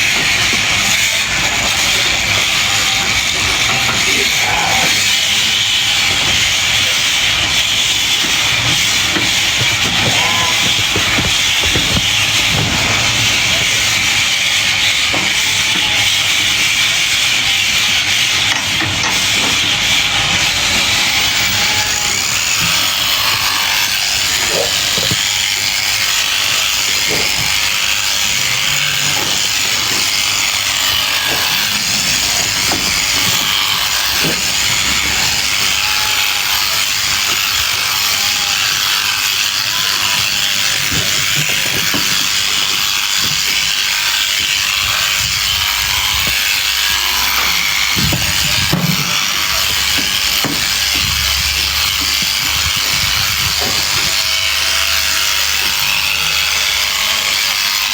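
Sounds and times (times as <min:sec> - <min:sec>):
sheep shears rasping and clicking: 0:00.0 - 0:57.9.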